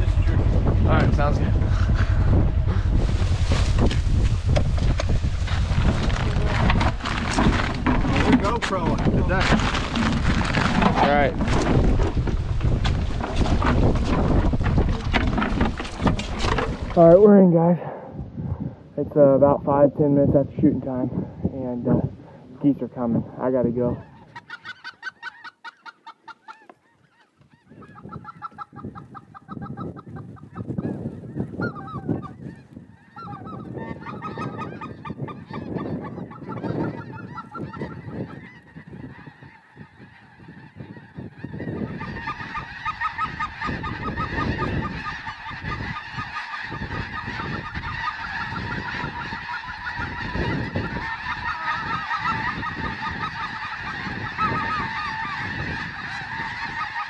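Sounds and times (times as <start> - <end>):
geese honking overhead: 0.0 - 17.5, 20.8 - 57.0.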